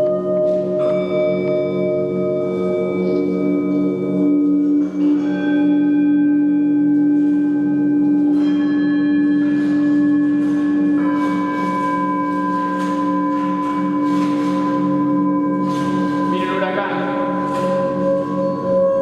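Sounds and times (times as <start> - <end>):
ringing bell-like tones: 0.0 - 19.0.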